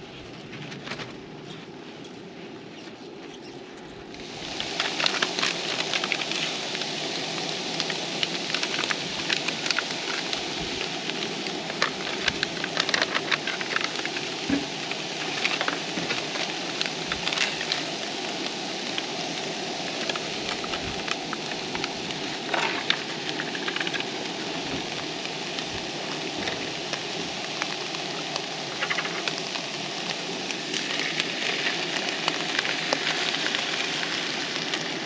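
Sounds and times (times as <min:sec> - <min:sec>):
quiet steady background noise: 0:00.0 - 0:35.0
campfire crackling and popping: 0:02.8 - 0:35.0.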